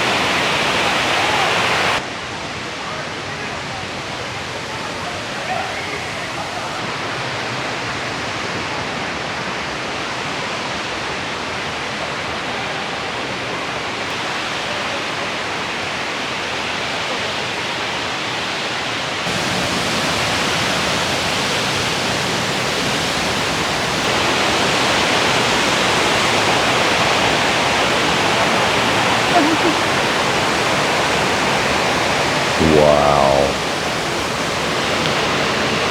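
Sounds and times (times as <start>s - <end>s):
rushing white water: 0.0s - 35.9s.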